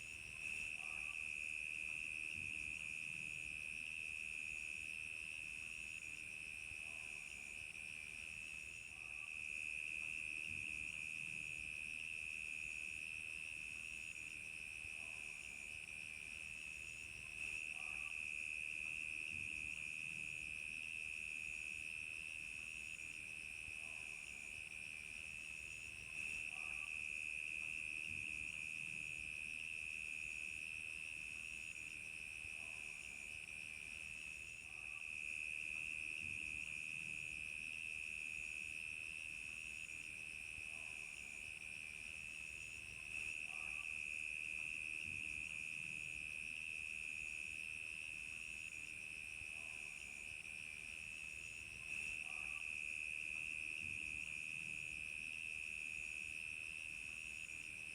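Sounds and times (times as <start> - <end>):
crickets pulsing chirp: 0.0 - 57.9
crickets steady trill: 0.0 - 57.9.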